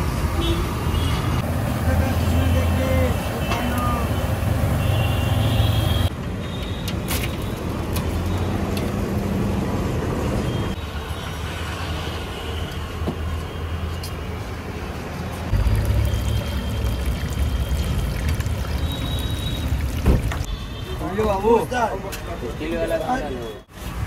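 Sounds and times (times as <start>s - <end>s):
low traffic hum: 0.0s - 24.0s.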